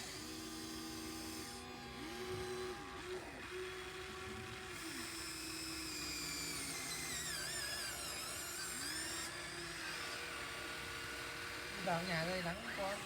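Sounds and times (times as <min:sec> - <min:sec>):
electric motor and pump whining: 0:00.0 - 0:13.0.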